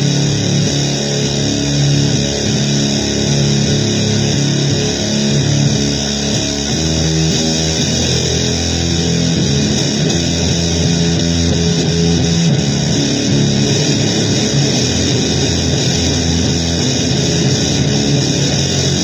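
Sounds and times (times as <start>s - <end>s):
loud guitar noise-blues music: 0.0s - 19.0s.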